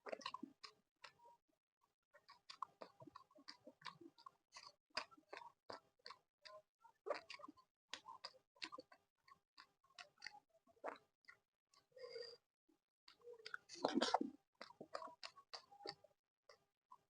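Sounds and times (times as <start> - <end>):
wet chewing clicks and smacks: 0.0 - 1.2, 2.2 - 12.4, 13.1 - 17.0.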